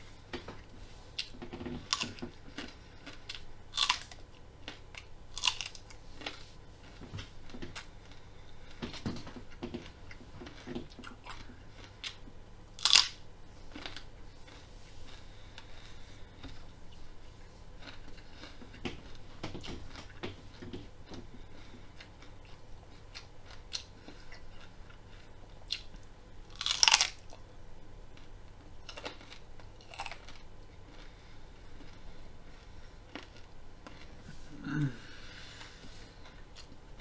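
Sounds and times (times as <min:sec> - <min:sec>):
person chewing crunchy vegetable: 0:00.0 - 0:27.5, 0:28.1 - 0:37.0.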